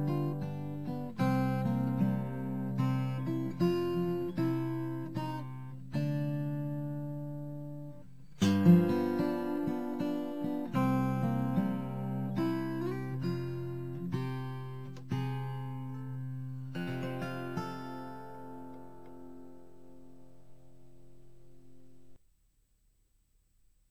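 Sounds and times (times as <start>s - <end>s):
acoustic guitar playing: 0.0s - 22.1s.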